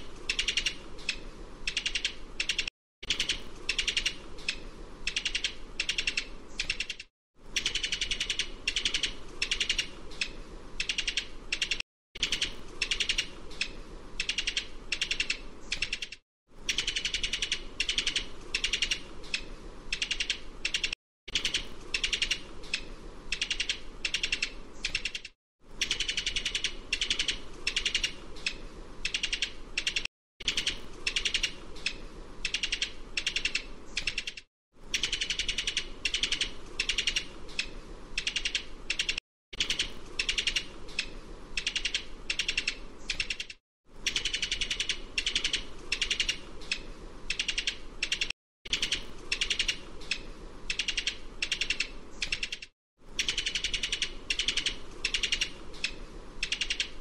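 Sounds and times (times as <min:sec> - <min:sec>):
keyboard typing clicks: 0:00.2 - 0:57.0.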